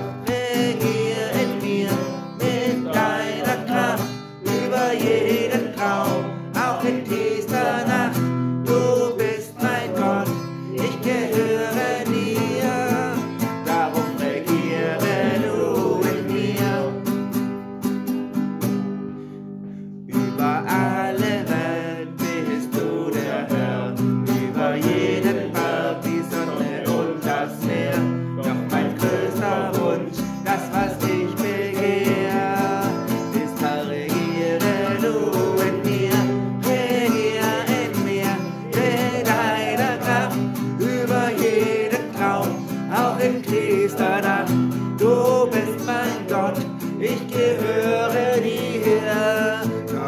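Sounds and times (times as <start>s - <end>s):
man singing: 0.0s - 17.3s, 20.1s - 50.0s
acoustic guitar chords: 0.0s - 50.0s.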